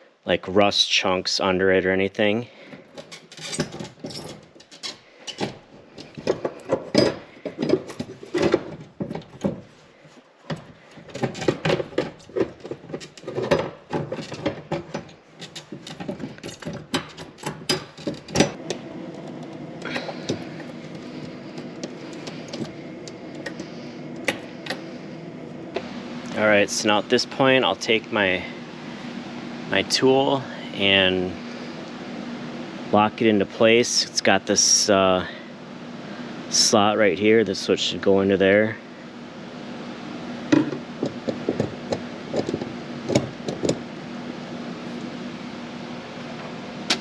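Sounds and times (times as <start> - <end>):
steady hum: 0.0 - 47.0.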